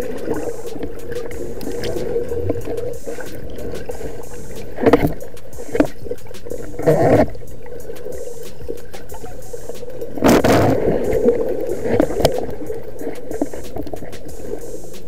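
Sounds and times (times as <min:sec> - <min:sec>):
muffled underwater wash: 0:00.0 - 0:15.0
water gurgling: 0:00.0 - 0:15.0.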